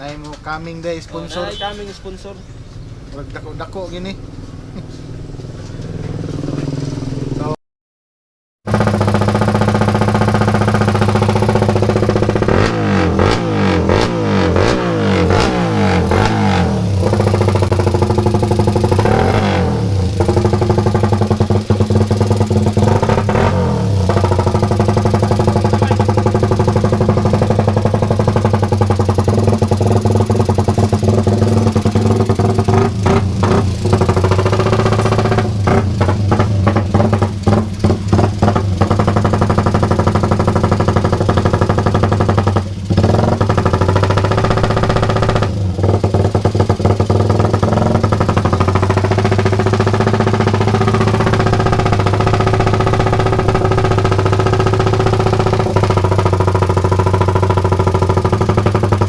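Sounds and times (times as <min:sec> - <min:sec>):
motorcycle engine idling: 0:00.0 - 0:07.6, 0:08.7 - 0:59.0
throttle blips revving engine: 0:08.6 - 0:59.0.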